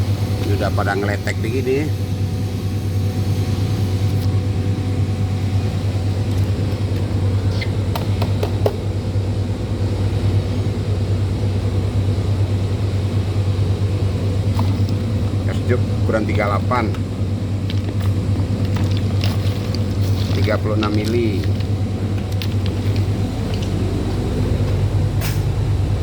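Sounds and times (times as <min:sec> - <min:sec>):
machine droning: 0:00.0 - 0:26.0.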